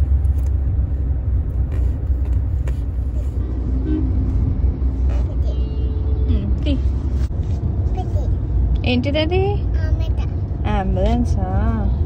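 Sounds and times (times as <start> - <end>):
low road rumble inside car: 0.0 - 12.0.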